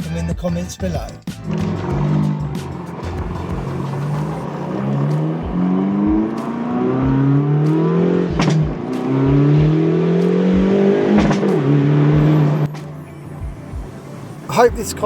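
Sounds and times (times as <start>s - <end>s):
music with steady beat: 0.0s - 15.0s
car engine accelerating: 1.4s - 15.0s.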